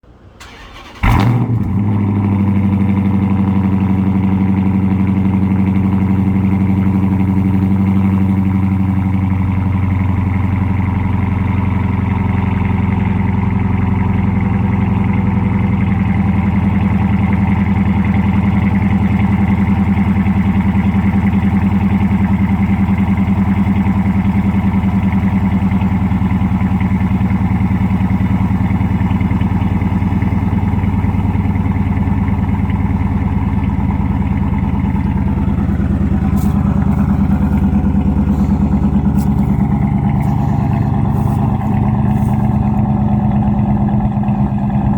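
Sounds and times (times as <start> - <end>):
car engine starting and idling: 0.0 - 44.9.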